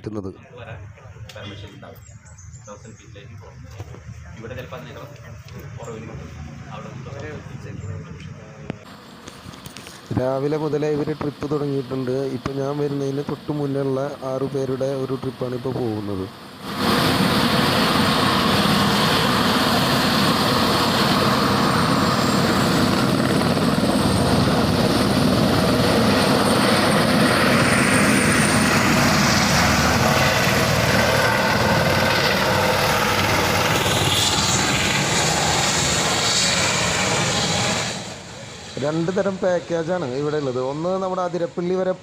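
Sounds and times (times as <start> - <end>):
high turbine whine: 0.4 - 42.0
helicopter rotor chopping: 3.1 - 42.0.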